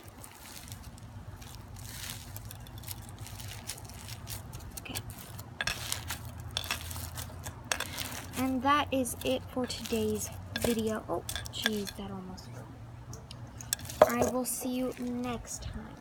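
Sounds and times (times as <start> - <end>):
slime squishing and crackling: 0.0 - 12.1, 13.6 - 15.6.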